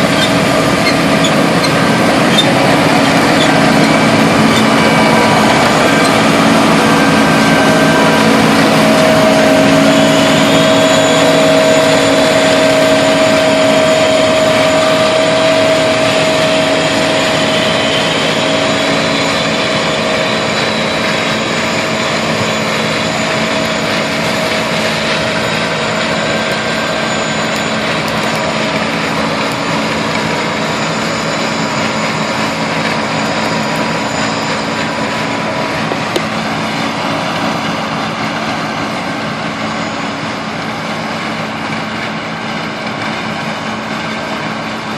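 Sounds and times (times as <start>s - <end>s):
combine harvester engine: 0.0s - 44.9s
machine whines: 0.0s - 44.9s.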